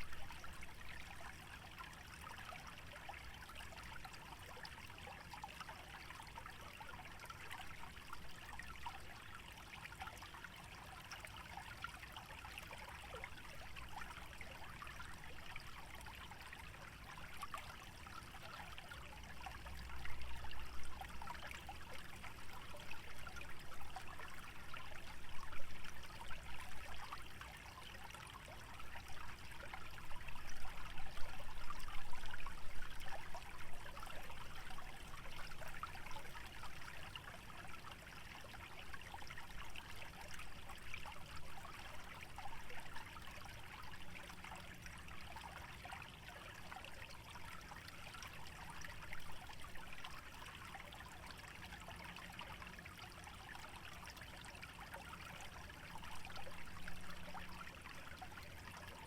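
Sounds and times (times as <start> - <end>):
stream trickling and burbling: 0.0 - 59.0.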